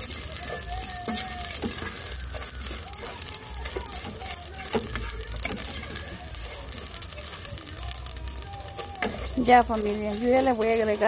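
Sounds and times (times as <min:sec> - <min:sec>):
spoon stirring rice in a pot: 0:00.0 - 0:11.0.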